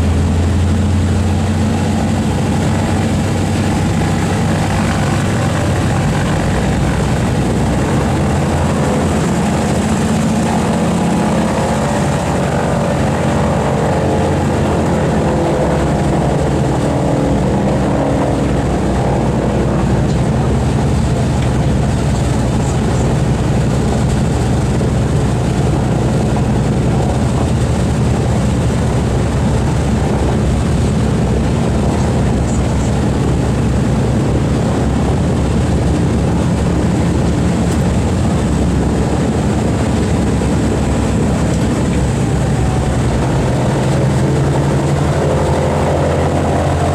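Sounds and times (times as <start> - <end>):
propeller aircraft engines droning: 0.0 - 46.9.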